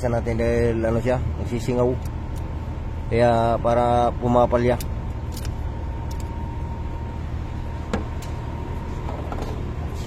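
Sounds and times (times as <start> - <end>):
faint steady whine: 0.0 - 10.0
low mechanical hum: 0.0 - 10.0.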